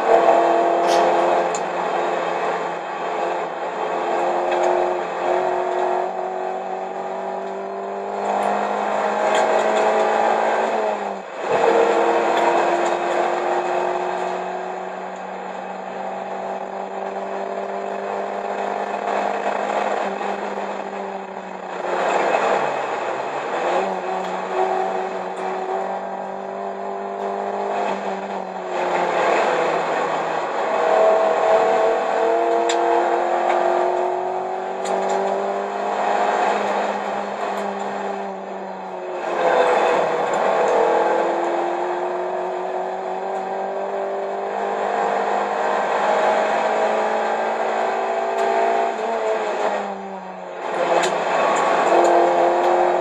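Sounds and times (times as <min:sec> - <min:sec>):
car engine revving under load: 0:00.0 - 0:53.0.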